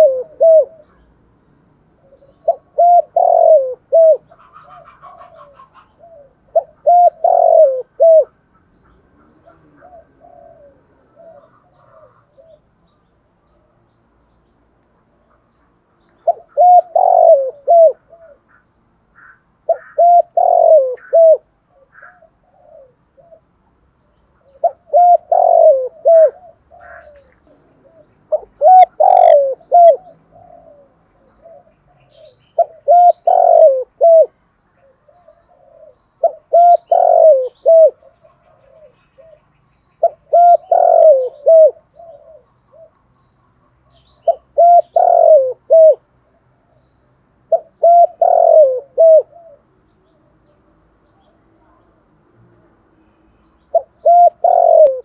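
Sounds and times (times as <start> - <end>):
dove cooing: 0.0 - 1.2, 2.0 - 12.8, 16.2 - 23.6, 24.4 - 43.1, 43.7 - 46.8, 47.5 - 50.2, 53.6 - 55.0.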